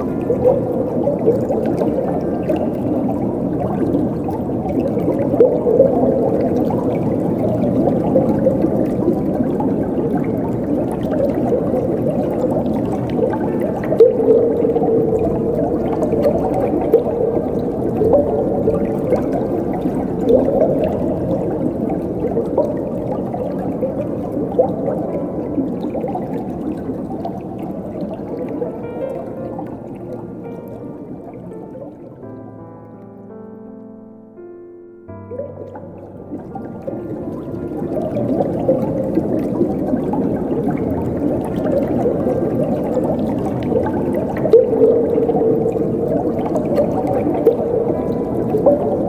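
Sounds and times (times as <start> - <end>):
water gurgling and bubbling: 0.0 - 32.4, 35.2 - 49.0.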